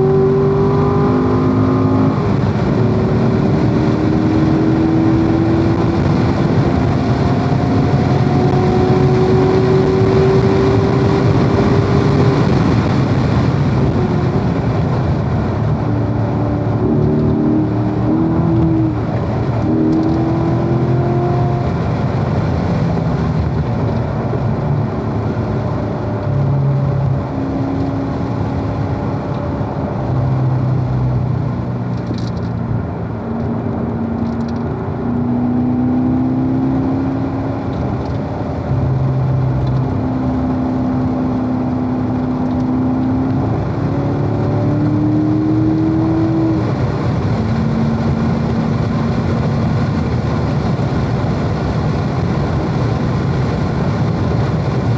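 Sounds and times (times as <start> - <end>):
car engine revving: 0.0 - 54.9
wind and road noise: 0.0 - 54.9.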